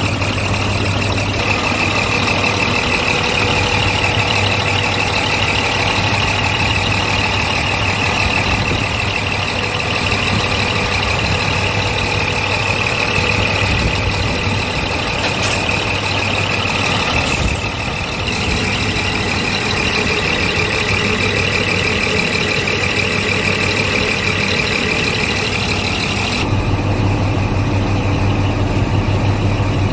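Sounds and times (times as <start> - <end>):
diesel engine idling: 0.0 - 29.9
high fast ticking: 0.4 - 26.4.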